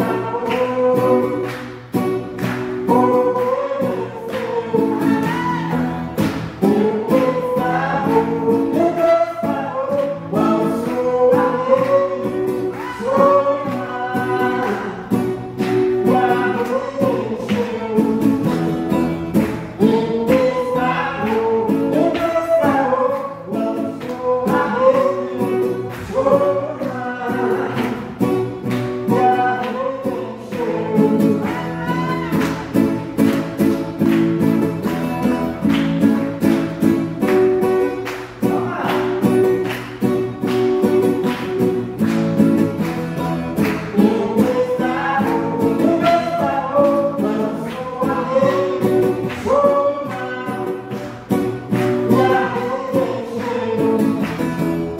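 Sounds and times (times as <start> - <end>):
man singing into microphone: 0.0 - 2.0, 2.7 - 18.8, 19.5 - 32.7, 37.2 - 39.7, 43.4 - 54.9
acoustic guitar strumming: 0.0 - 54.9.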